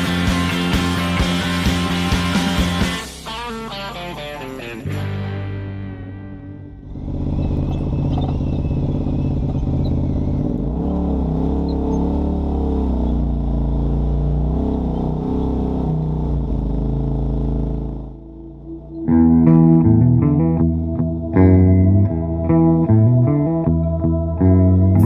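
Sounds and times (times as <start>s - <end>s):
off-road vehicle engine: 0.0s - 25.0s.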